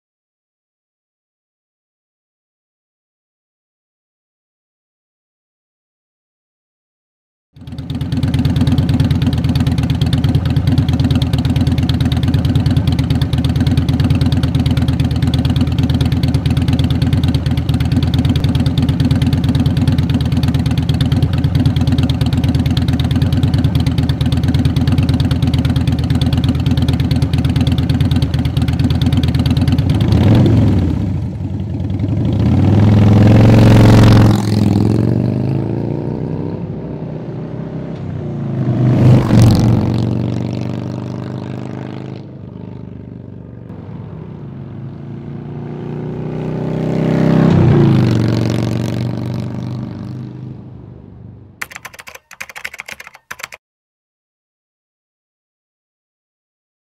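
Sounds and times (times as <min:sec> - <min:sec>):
motorcycle engine idling and revving: 0:07.6 - 0:53.6.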